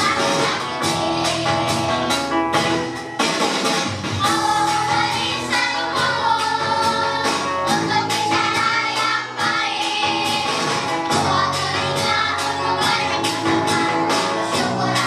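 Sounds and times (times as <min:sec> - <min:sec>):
children singing: 0:00.0 - 0:02.1, 0:04.2 - 0:15.0
backing music with beat: 0:00.0 - 0:15.0.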